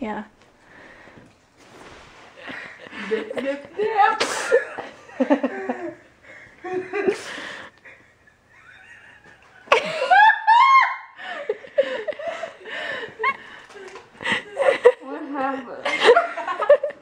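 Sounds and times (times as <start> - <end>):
people laughing: 2.4 - 17.0.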